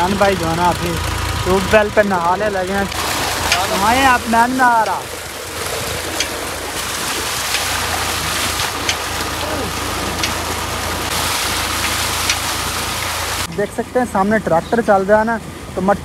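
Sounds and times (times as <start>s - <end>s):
water pouring and splashing: 0.0s - 13.5s
low hum: 0.0s - 15.8s.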